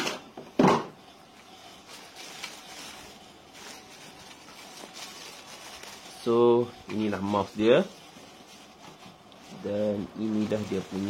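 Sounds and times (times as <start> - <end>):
packaging rustling: 1.2 - 11.0.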